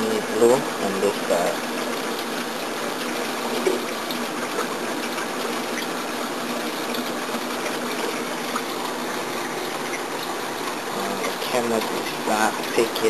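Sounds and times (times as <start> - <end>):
aquarium water rushing: 0.0 - 13.0.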